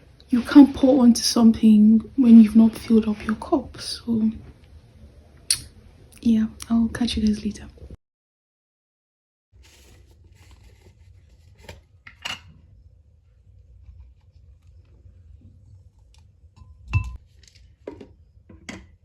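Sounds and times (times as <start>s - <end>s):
low steady hum: 0.0s - 8.0s, 9.6s - 19.0s.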